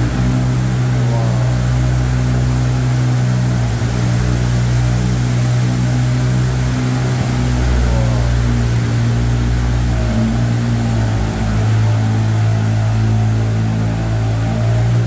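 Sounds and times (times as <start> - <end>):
boat motor droning: 0.0 - 15.0.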